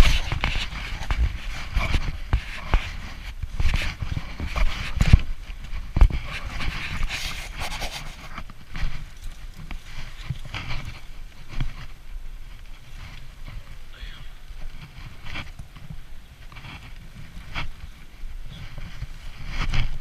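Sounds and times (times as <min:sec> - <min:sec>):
footsteps scrambling over loose rocks: 0:00.0 - 0:20.0
twigs and leaves scraping: 0:00.0 - 0:20.0.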